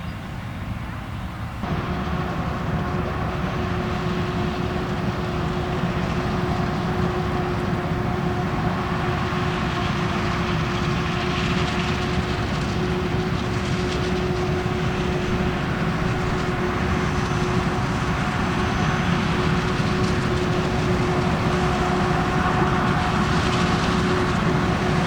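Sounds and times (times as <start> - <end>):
diesel machinery running: 0.0 - 25.0
steady mechanical whine: 0.0 - 25.0.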